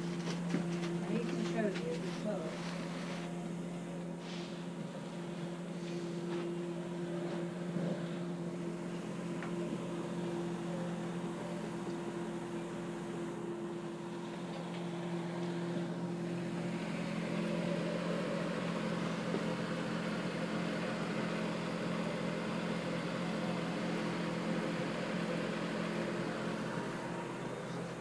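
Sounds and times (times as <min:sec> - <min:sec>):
low hum of fixed tones: 0:00.0 - 0:28.0.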